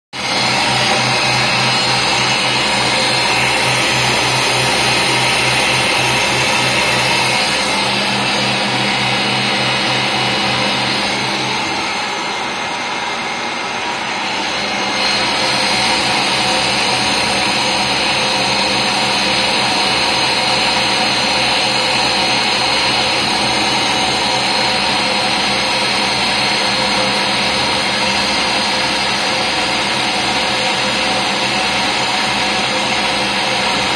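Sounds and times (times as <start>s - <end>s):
milling machine cutting metal: 0.2s - 33.9s.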